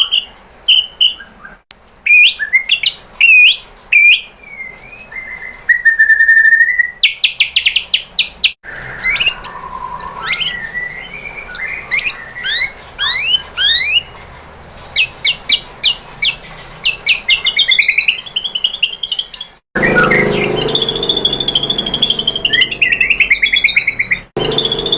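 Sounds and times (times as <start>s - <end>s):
bird singing varied whistles: 0.0s - 14.1s, 16.2s - 24.9s.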